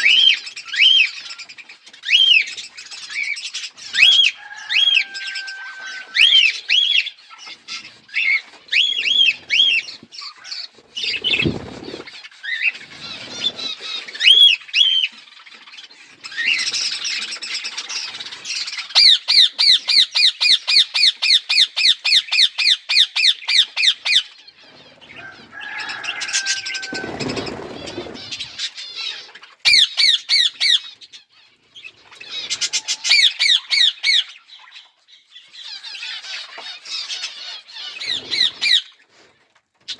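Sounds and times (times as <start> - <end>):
budgies chirping and squawking: 0.0 - 39.9.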